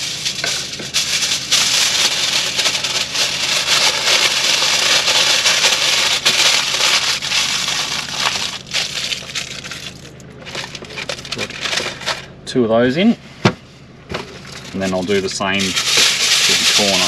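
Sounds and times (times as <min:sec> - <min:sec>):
aluminium foil crinkling: 0:00.0 - 0:12.3, 0:14.3 - 0:17.0.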